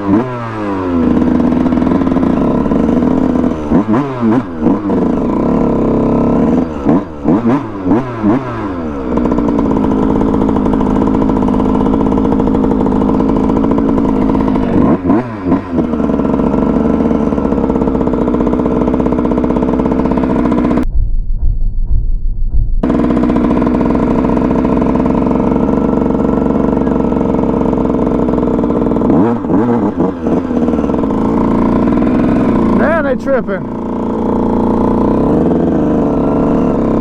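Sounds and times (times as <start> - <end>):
dirt bike engine revving: 0.0 - 20.8, 22.8 - 37.0.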